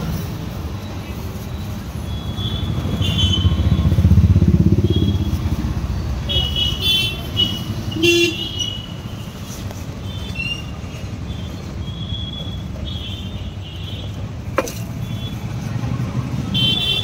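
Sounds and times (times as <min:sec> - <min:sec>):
passing vehicles rumbling: 0:00.0 - 0:17.0.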